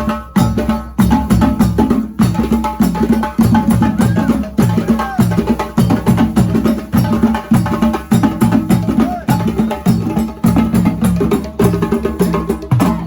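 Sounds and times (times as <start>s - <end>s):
drums playing fast rhythm: 0.0s - 13.0s.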